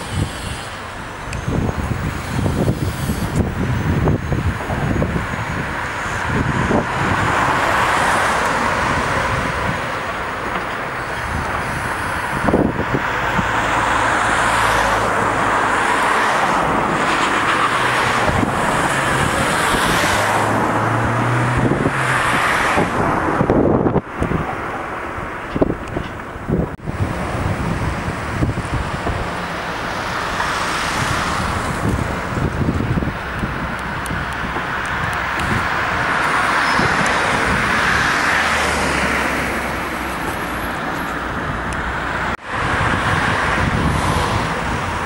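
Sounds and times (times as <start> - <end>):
passing cars: 0.0 - 45.0.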